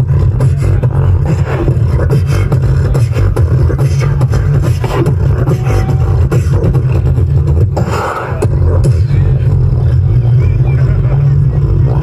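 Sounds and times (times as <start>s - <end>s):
beatboxing vocal percussion: 0.0s - 12.0s
heavy continuous bass: 0.0s - 12.0s.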